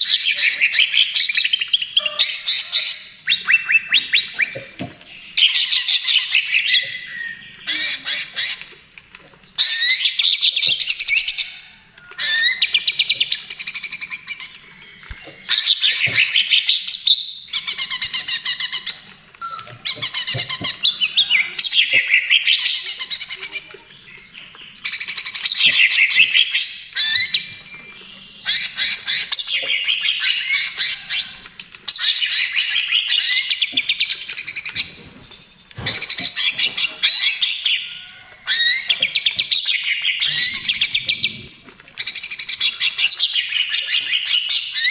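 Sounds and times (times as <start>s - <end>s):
bird singing chattering notes: 0.0s - 44.9s.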